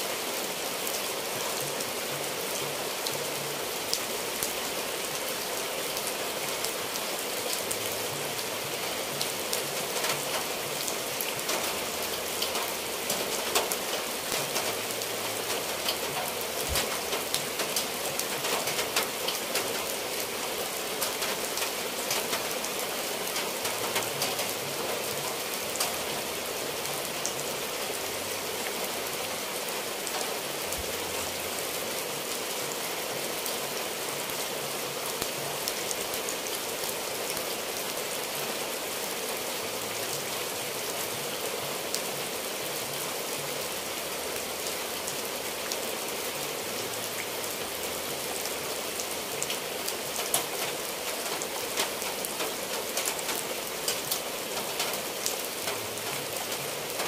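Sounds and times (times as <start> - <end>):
rain on tile roofs: 0.0 - 57.0
water dripping from eaves: 0.2 - 41.0, 41.6 - 57.0.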